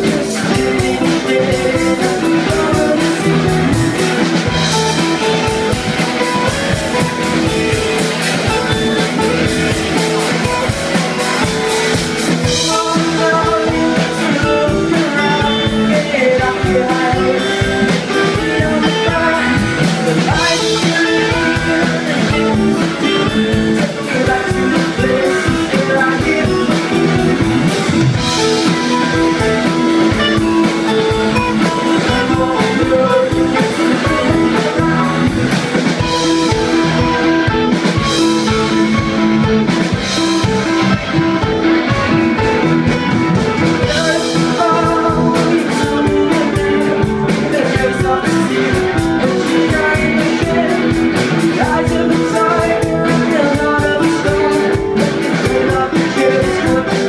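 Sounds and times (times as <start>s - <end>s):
person singing: 0.0s - 57.0s
rock band playing live: 0.0s - 57.0s.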